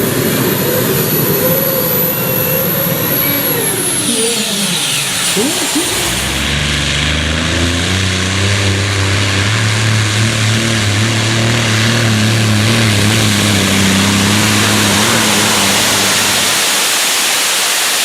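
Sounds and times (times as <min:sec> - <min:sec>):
loud hiss: 0:00.0 - 0:18.0
tractor engine at full power: 0:00.0 - 0:18.0.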